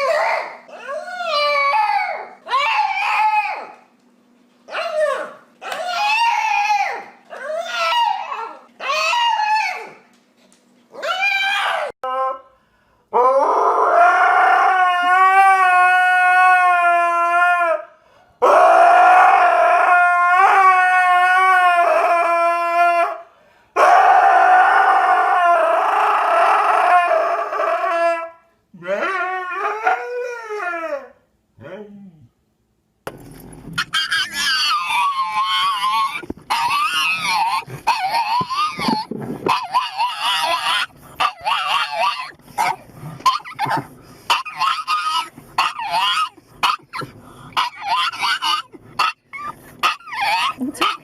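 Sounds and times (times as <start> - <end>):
dog howling: 0.0 - 3.8, 4.7 - 10.0, 11.0 - 12.4, 13.2 - 23.2, 23.8 - 32.2, 33.8 - 51.0.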